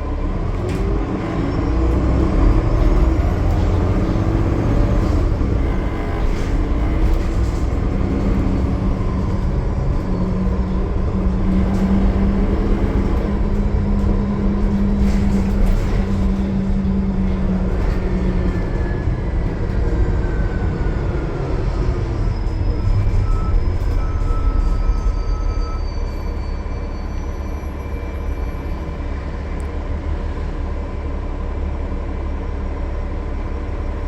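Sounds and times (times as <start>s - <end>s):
bus diesel engine rumble: 0.0s - 34.0s.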